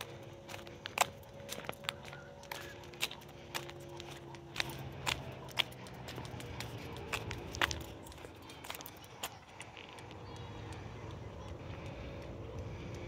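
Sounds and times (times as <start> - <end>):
faint low hum: 0.0 - 13.0
footsteps on a trail: 0.0 - 13.0.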